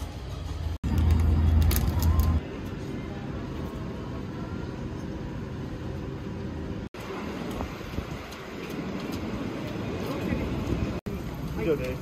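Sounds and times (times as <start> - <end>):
outdoor street noise: 0.0 - 12.0.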